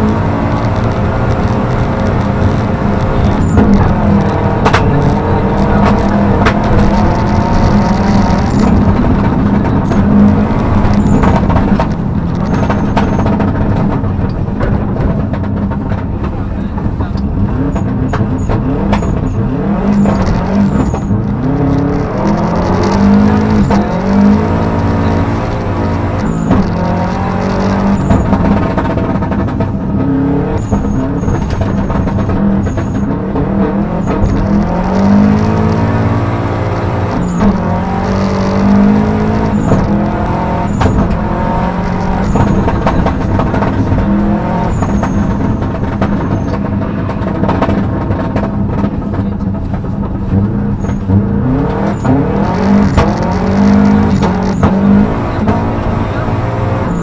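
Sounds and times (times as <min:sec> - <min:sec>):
car engine revving hard: 0:00.0 - 0:14.1, 0:17.2 - 0:57.0
road noise rushing: 0:00.0 - 0:57.0.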